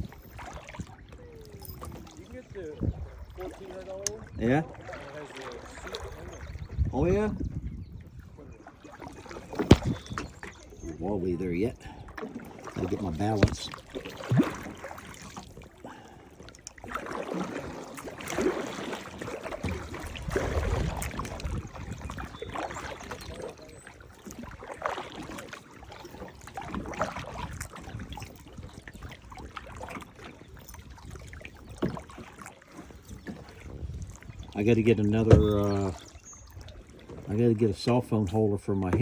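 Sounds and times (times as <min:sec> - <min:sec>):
paddle splashing through water: 0:00.0 - 0:11.1, 0:11.8 - 0:38.0
water trickling off paddle: 0:00.0 - 0:39.0.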